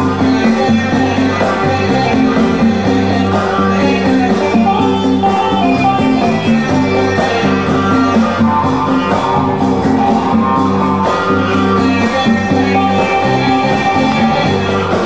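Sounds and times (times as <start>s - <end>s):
instrumental music with held notes: 0.0s - 15.0s.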